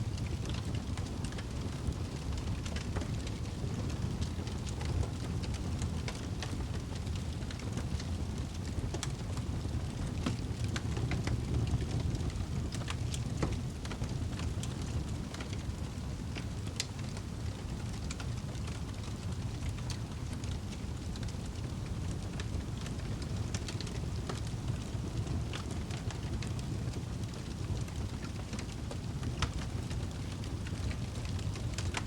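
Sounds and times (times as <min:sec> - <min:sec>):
fire crackles and pops: 0:00.0 - 0:32.0
low rumble of flames: 0:00.0 - 0:32.0.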